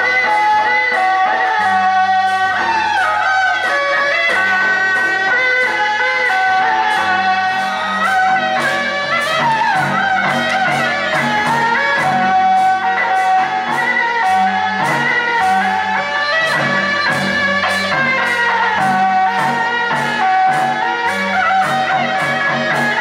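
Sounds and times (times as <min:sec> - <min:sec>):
shawm playing ornamented melody: 0:00.0 - 0:23.0
steady percussion beat: 0:00.0 - 0:23.0.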